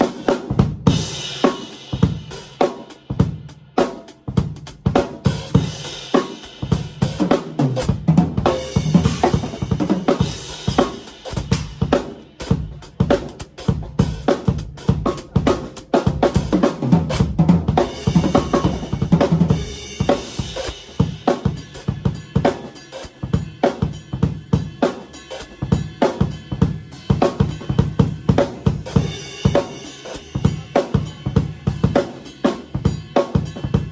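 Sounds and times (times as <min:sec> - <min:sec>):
cymbal crashes: 0:00.0 - 0:03.2, 0:05.3 - 0:14.6, 0:16.3 - 0:33.9
drum kit groove: 0:00.0 - 0:33.9.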